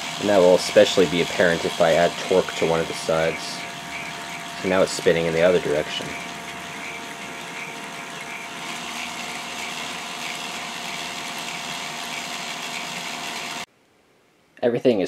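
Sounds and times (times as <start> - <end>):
electric motors whining: 0.0 - 13.7
low hum: 0.0 - 14.6.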